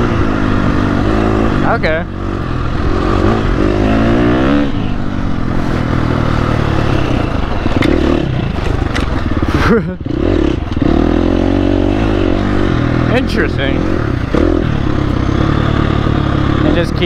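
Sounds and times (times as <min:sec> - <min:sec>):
dirt bike engine under throttle: 0:00.0 - 0:17.0.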